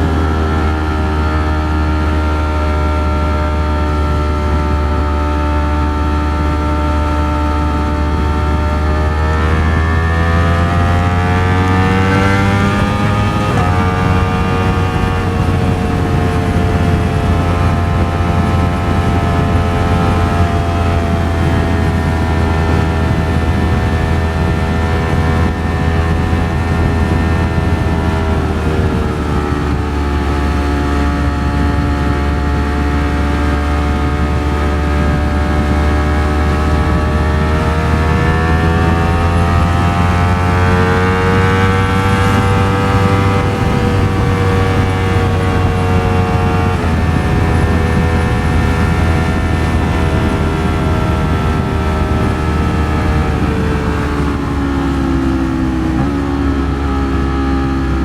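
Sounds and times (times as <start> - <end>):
motorcycle engine cruising: 0.0 - 58.0
wind rumble on microphone: 0.0 - 58.0.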